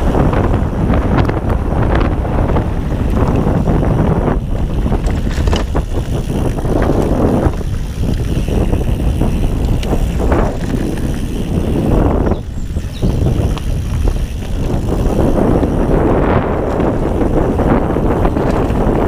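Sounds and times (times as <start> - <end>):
bike clicks and rattles: 0.0 - 19.0
bike tyres rolling on dirt trail: 0.0 - 19.0
wind rushing over microphone: 0.0 - 19.0.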